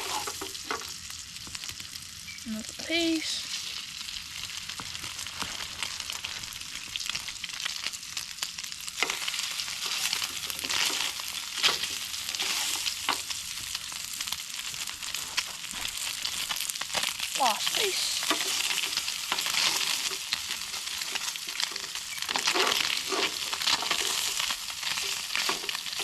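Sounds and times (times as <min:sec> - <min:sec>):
fish sizzling in butter: 0:00.0 - 0:26.0.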